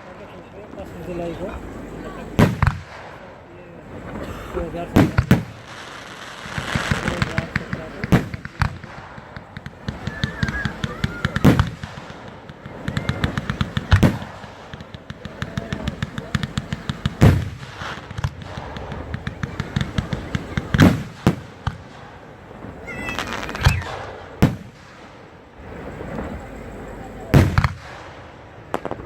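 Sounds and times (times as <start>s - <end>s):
fireworks bangs: 0.0s - 29.0s
fireworks crackling pops: 0.0s - 29.0s.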